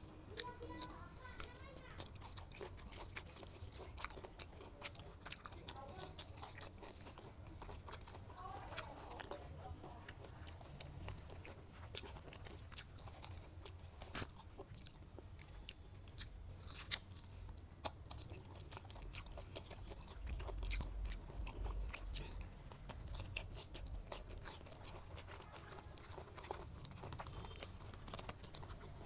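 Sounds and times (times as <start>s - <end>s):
person chewing fruit: 0.0s - 29.0s.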